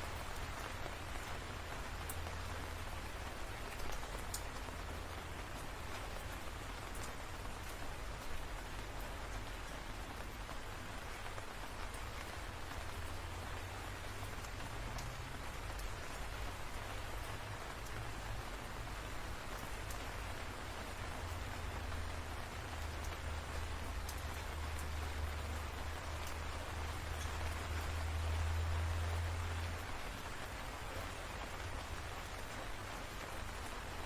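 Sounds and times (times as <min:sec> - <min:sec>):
sharp raindrop ticks: 0:00.0 - 0:34.0
steady rain falling: 0:00.0 - 0:34.0.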